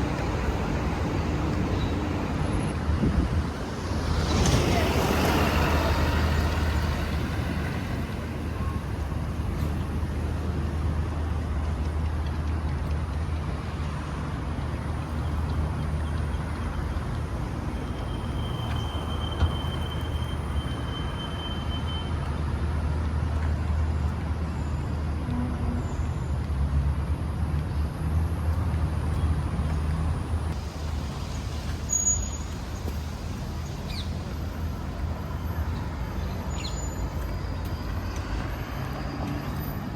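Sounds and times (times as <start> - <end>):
distant road traffic rumble: 0.0 - 39.9.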